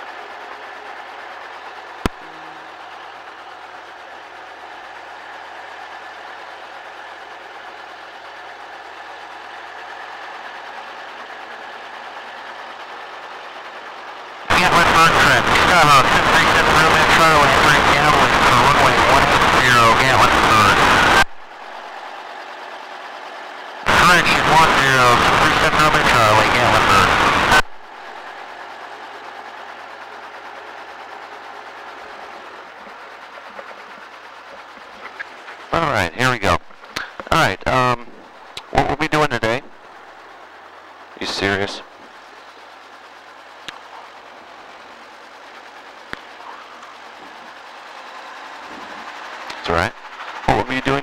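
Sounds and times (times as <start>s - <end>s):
helicopter piston engine running: 0.0s - 51.0s
helicopter rotor turning: 0.0s - 51.0s.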